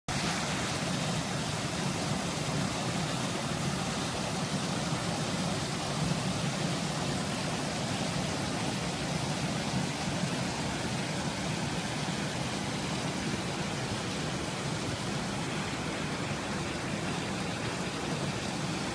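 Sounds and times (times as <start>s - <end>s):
water rushing over boulders: 0.1s - 18.9s.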